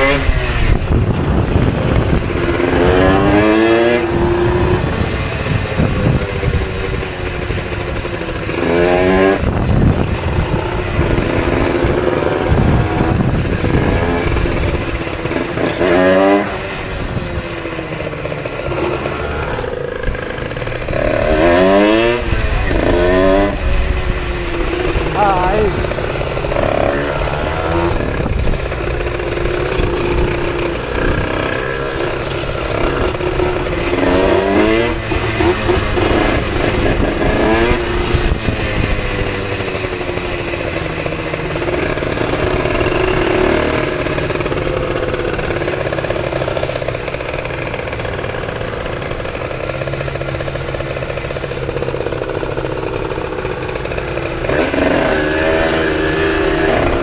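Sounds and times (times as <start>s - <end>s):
moped engine revving: 0.0s - 57.0s.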